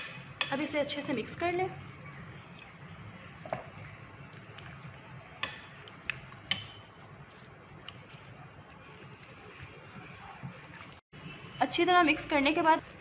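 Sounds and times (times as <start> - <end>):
spatula stirring batter: 0.0 - 13.0.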